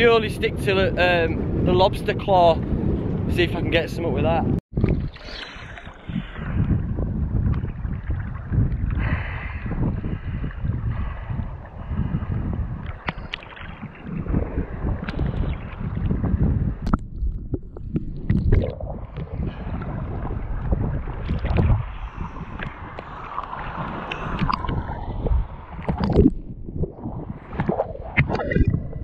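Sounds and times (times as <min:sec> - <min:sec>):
wind on microphone: 0:00.0 - 0:29.0
sea water splashing: 0:04.7 - 0:29.0.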